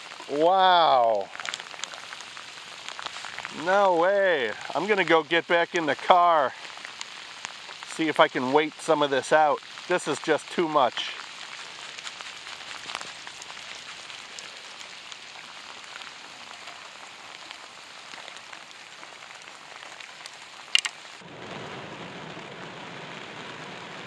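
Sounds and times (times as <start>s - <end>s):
heavy rain hissing: 0.0s - 24.0s
rain on car roof: 0.0s - 24.0s.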